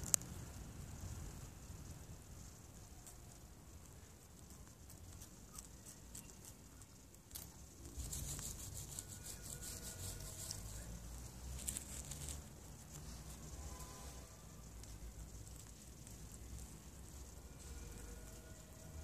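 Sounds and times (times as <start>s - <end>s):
hens pecking and scratching: 0.0s - 19.0s.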